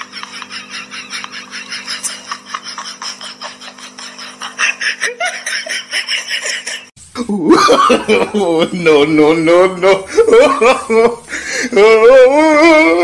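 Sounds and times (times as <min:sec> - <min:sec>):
person laughing in breathy bursts: 0:00.0 - 0:08.5, 0:10.0 - 0:13.0.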